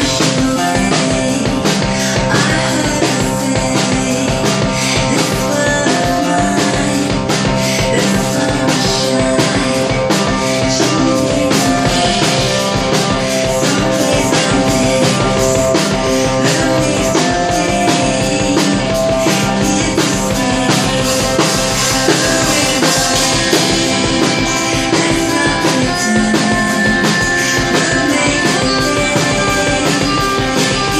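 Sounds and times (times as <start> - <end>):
drum kit beat: 0.0 - 30.9
electric guitar: 0.0 - 30.9.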